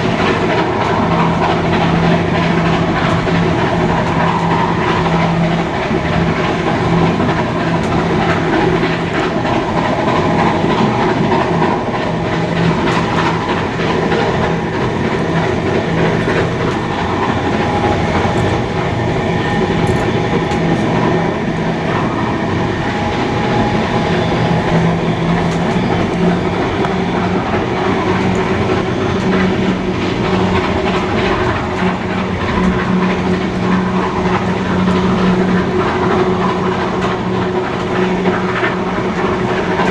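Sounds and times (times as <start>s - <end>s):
steady tones: 0.0s - 39.9s
train wheels rolling on rails: 0.0s - 39.9s.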